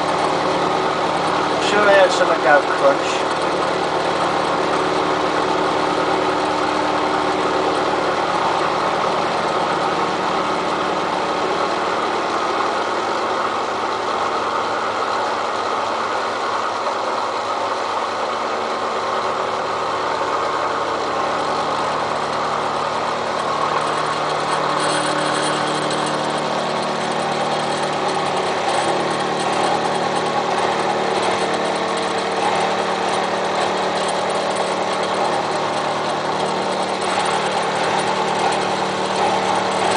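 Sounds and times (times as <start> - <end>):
milling machine cutting steel: 0.0 - 39.9.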